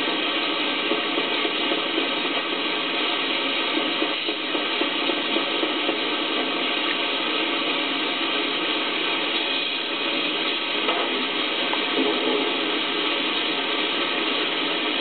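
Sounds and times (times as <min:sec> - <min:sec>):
machinery hiss and hum: 0:00.0 - 0:15.0.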